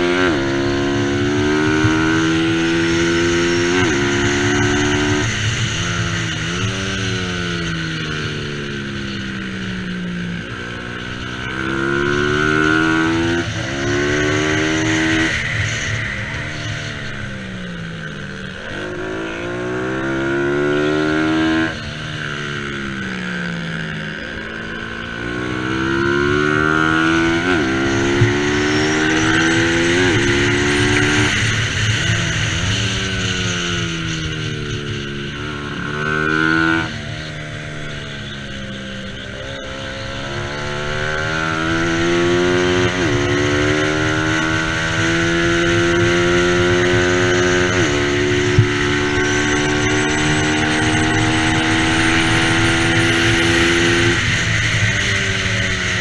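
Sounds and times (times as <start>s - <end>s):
motorcycle engine revving hard: 0.0s - 56.0s.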